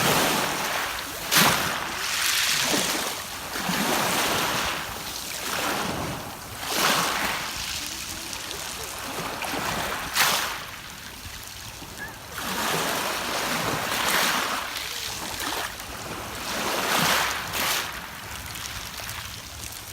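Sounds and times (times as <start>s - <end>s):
waves washing over pebbles: 0.0s - 19.9s.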